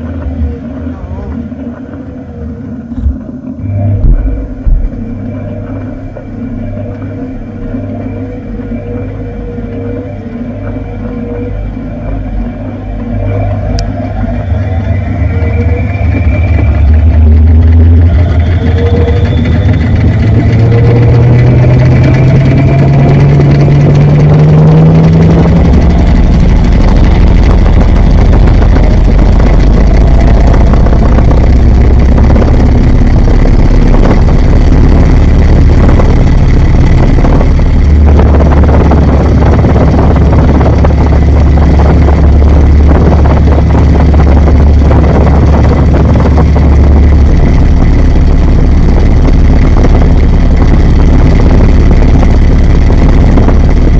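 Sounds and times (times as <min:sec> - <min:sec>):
washing machine running: 0:00.0 - 0:53.9.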